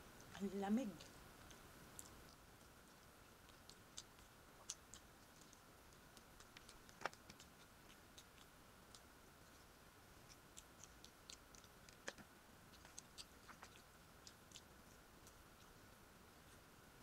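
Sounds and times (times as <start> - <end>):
chewing clicks: 1.4 - 9.6, 10.2 - 15.8.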